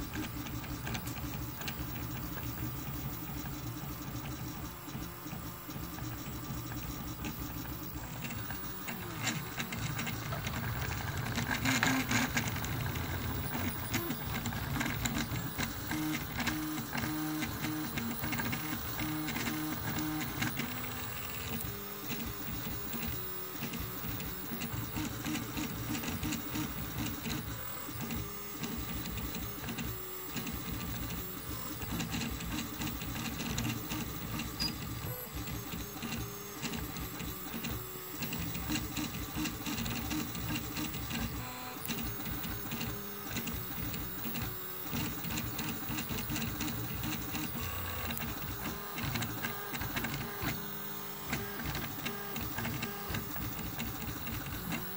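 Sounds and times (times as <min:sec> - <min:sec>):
stepper motors whirring and whining: 0:00.0 - 0:54.9.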